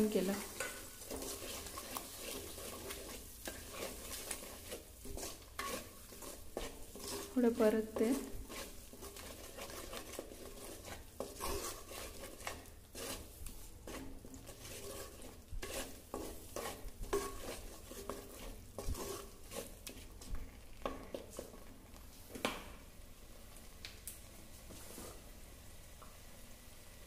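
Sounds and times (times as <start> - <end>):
wooden spatula scraping clay pot: 0.0 - 22.4, 24.6 - 25.3
paste sizzling in oil: 0.0 - 23.6.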